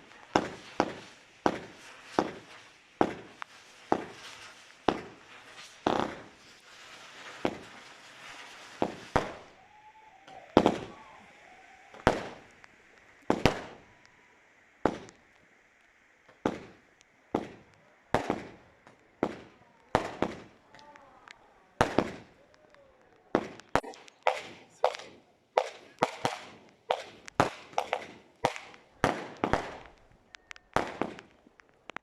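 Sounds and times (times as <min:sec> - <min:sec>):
fireworks bangs: 0:00.0 - 0:32.0
hissing crackle: 0:00.0 - 0:32.0.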